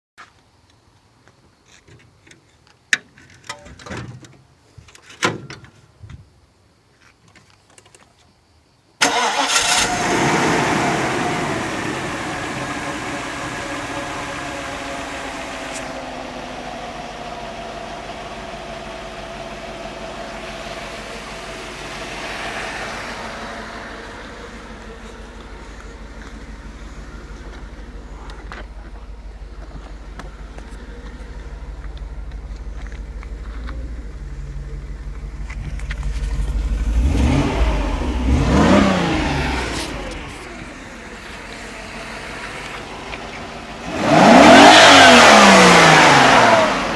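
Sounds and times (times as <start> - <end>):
car engine starting and idling: 9.0 - 46.9.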